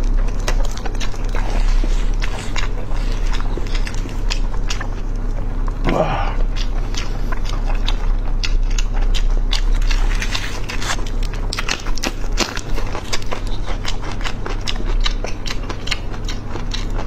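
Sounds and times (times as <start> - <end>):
chewing and biting chicken: 0.0 - 17.0
low hum: 0.0 - 17.0.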